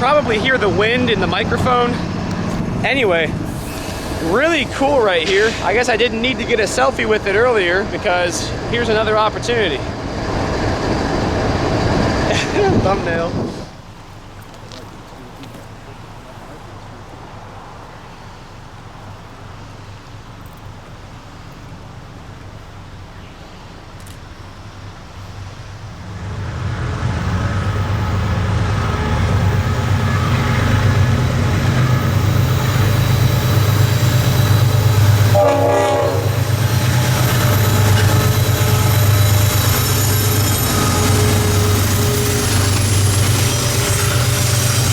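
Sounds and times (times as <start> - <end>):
locomotive engine drone: 0.0 - 44.9.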